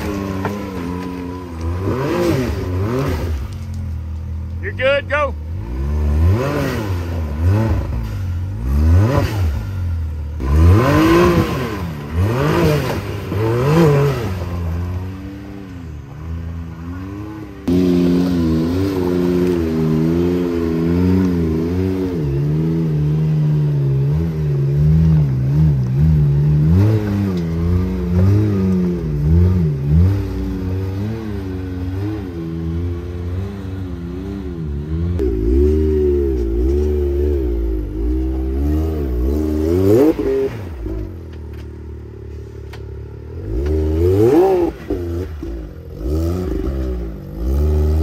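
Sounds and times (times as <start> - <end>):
engine revving over rocks: 0.0 - 48.0
engine running at low revs: 0.0 - 48.0.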